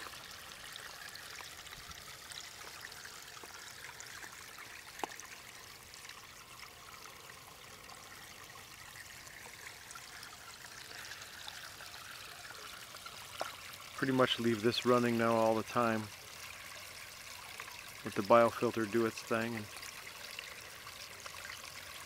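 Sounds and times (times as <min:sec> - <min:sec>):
water splashing over rocks: 0:00.0 - 0:22.0.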